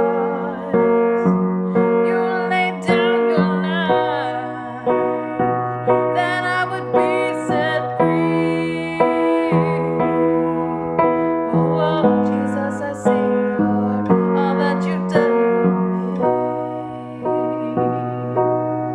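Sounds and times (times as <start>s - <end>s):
piano slow chords: 0.0s - 18.9s
woman singing: 0.0s - 18.9s.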